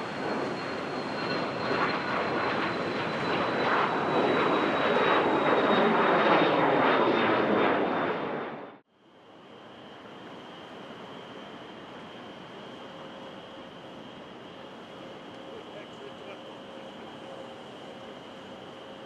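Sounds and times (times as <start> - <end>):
aircraft whine: 0.0 - 19.0
jet engines roaring: 0.0 - 19.0.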